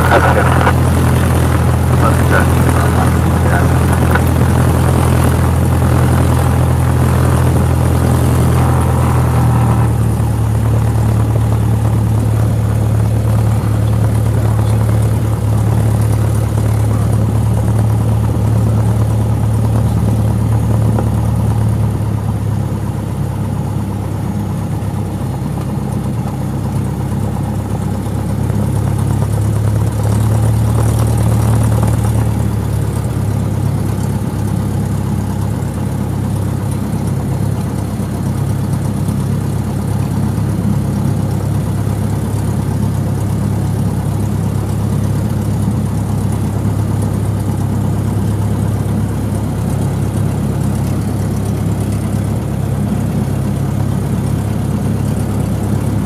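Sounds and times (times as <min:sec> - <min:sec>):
light aircraft engine drone: 0:00.0 - 0:56.0.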